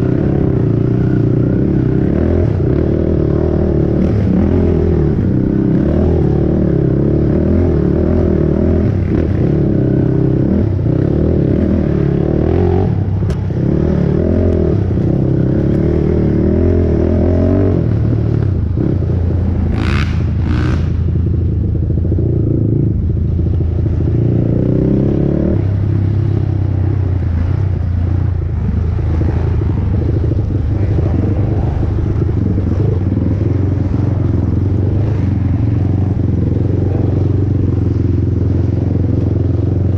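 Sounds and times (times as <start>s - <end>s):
atv engine revving under load: 0.0s - 39.9s.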